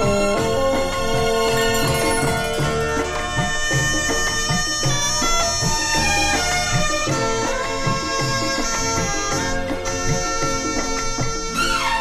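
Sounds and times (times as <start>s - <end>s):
instrumental film music: 0.0s - 12.0s.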